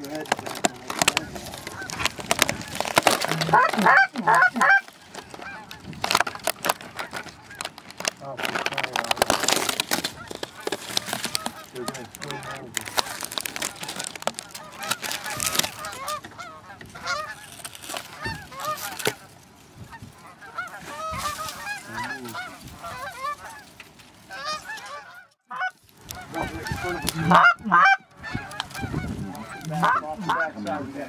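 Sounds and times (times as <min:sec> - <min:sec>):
geese honking in flight: 0:00.4 - 0:07.8, 0:10.1 - 0:23.7, 0:24.3 - 0:31.0.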